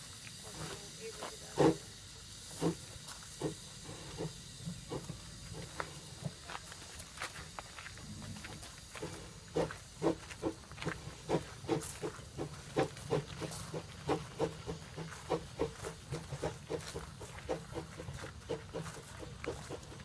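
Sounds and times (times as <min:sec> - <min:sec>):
steam hissing: 0:00.0 - 0:20.0
steam locomotive chuffing: 0:00.0 - 0:20.0.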